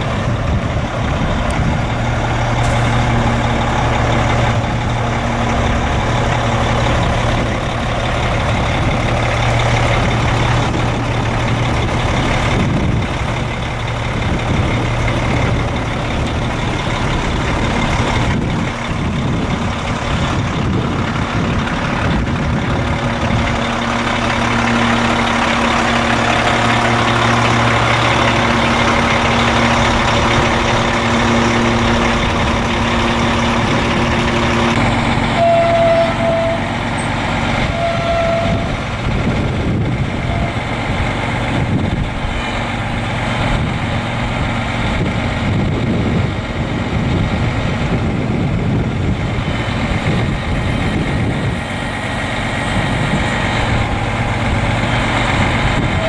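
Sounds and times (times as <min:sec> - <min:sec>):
diesel truck engine humming: 0:00.0 - 0:56.0.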